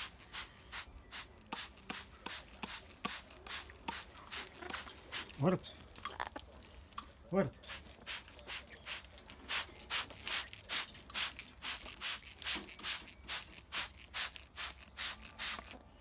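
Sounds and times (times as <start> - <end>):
spray bottle squirting: 0.0 - 5.4, 7.7 - 15.8.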